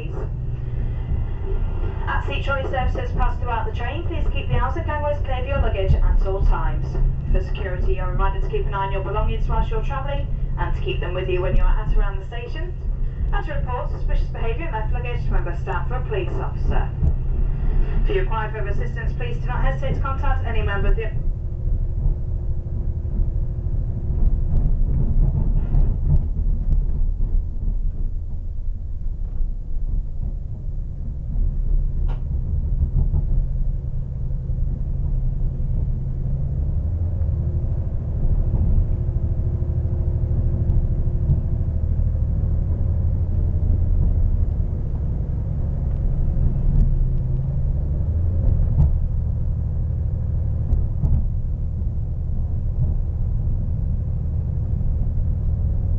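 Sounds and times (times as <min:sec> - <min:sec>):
train rumble from inside: 0:00.0 - 0:55.9.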